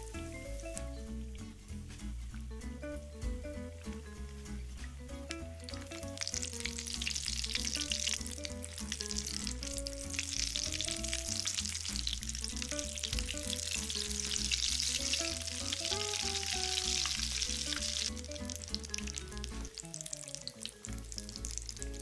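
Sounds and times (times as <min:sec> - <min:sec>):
food sizzling in hot oil: 0:00.0 - 0:01.1, 0:05.3 - 0:22.0.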